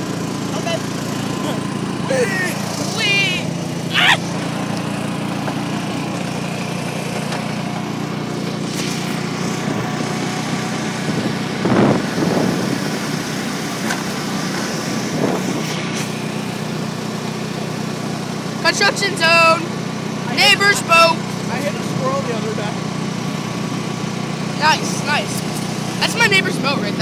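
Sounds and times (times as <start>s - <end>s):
road and wind noise: 0.0s - 27.0s
small vehicle engine running: 0.0s - 27.0s.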